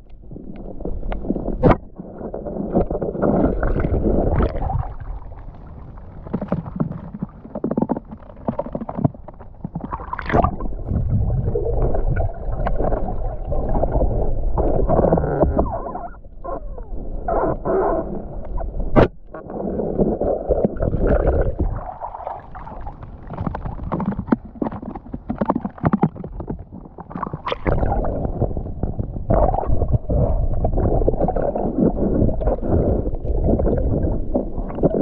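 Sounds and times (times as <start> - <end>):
muffled water sloshing: 0.0 - 35.0.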